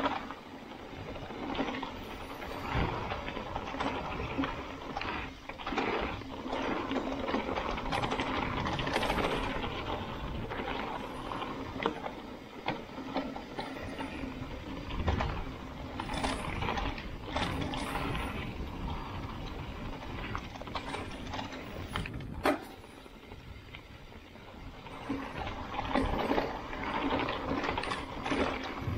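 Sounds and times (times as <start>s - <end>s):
mountain bike rattling and clicking: 0.0s - 28.9s.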